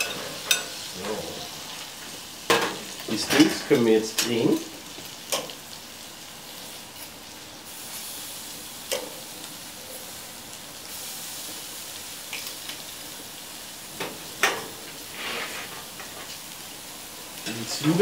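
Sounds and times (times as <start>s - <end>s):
steaks sizzling on grill: 0.0s - 18.0s.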